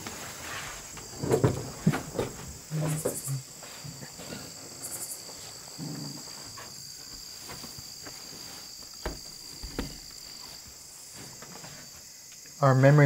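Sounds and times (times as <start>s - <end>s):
crickets chorus: 0.0s - 13.0s.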